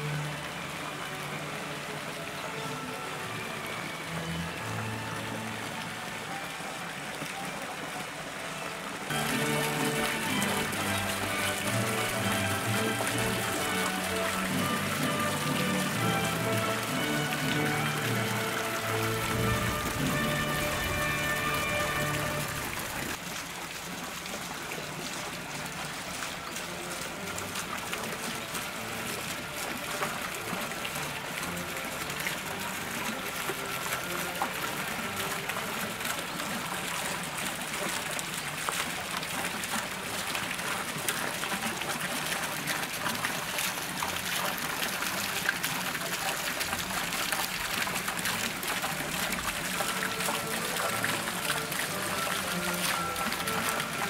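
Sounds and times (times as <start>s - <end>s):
running splashing water: 0.0s - 54.0s.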